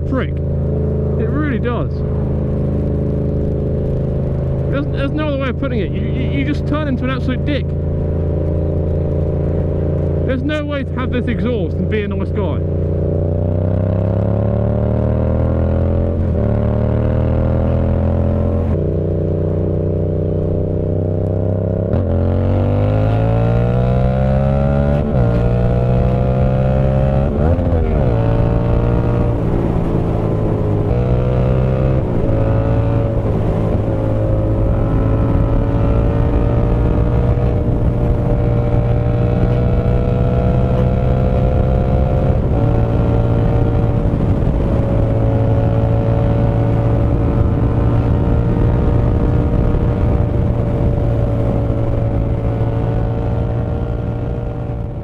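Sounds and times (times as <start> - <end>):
motorcycle engine under way: 0.0 - 55.0.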